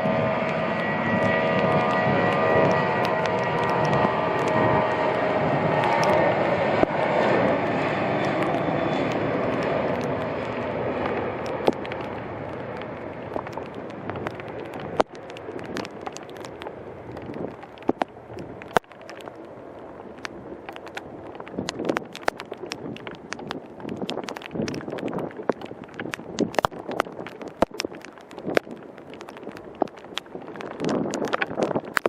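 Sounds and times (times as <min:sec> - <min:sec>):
jet airliner engines passing: 0:00.0 - 0:32.0
raindrops tapping on camera: 0:00.0 - 0:32.0.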